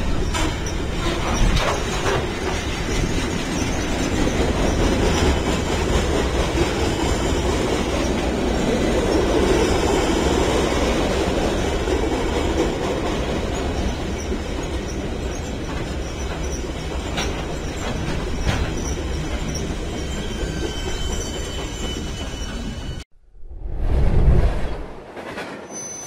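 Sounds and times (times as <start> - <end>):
steel wheels running over rails: 0.0 - 23.0.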